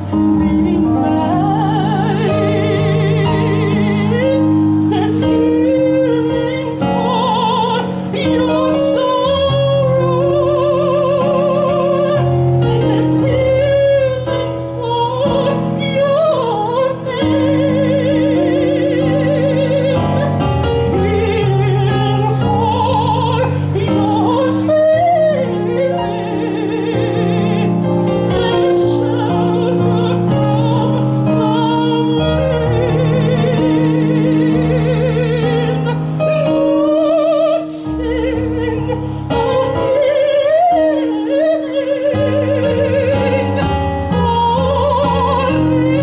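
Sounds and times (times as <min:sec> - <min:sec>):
soprano singing operatic style: 0:00.0 - 0:46.0
sustained piano chords: 0:00.0 - 0:46.0.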